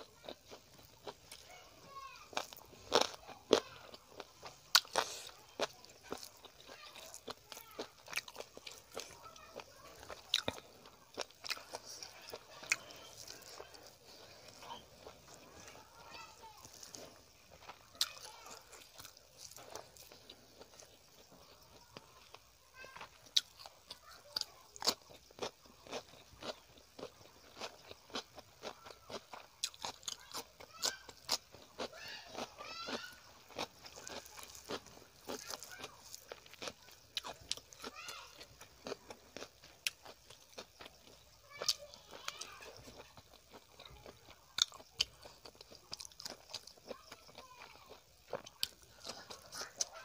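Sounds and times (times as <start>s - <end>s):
crunchy chewing of cucumber: 0.0s - 50.0s.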